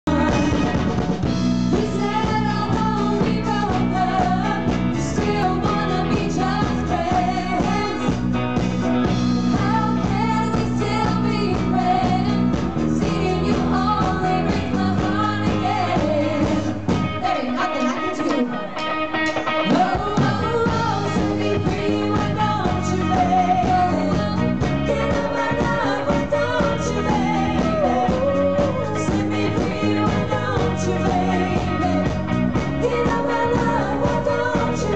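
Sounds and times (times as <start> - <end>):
bass guitar: 0.0 - 34.9
drums: 0.0 - 34.9
keyboard: 0.0 - 34.9
women singing in harmony: 0.1 - 1.0, 1.7 - 8.5, 9.2 - 18.8, 19.6 - 34.9
electric guitar: 0.1 - 34.9.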